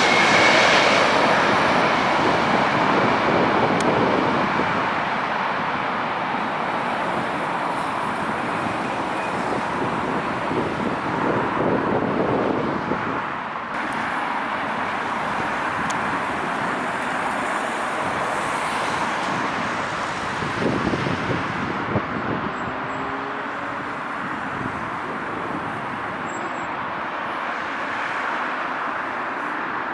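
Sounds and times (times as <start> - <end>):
rumble of engines and traffic: 0.0 - 29.9.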